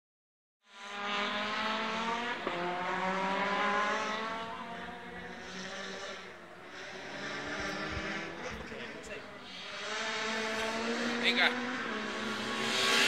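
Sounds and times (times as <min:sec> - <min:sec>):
rally car engine at high revs: 0:00.6 - 0:13.0.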